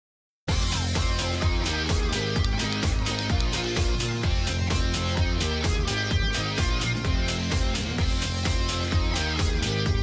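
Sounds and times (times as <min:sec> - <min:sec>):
upbeat music with guitar: 0:00.5 - 0:10.0.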